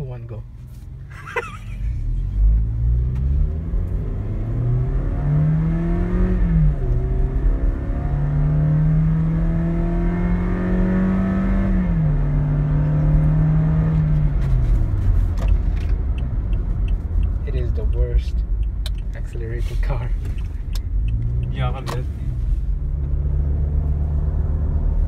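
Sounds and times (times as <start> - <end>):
car engine accelerating: 0.7 - 25.0.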